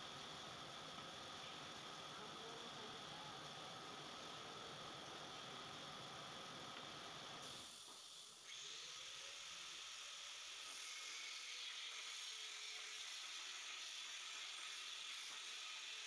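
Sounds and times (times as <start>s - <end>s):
plasma torch hissing: 0.9s - 16.0s.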